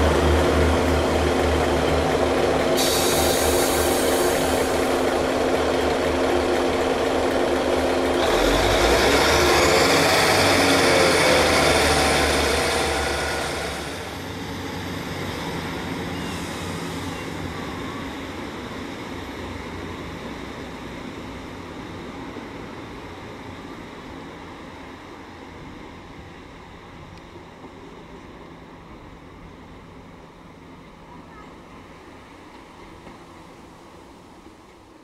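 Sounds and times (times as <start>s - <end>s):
diesel train engine and wheels: 0.0s - 35.0s.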